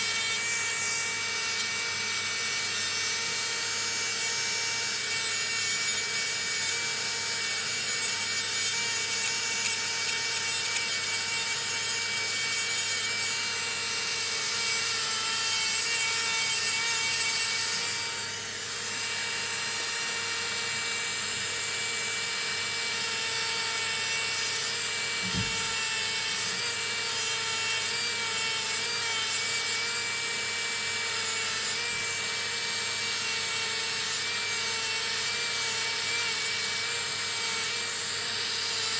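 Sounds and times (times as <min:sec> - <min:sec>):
nail drill grinding toenails: 0:00.0 - 0:38.9.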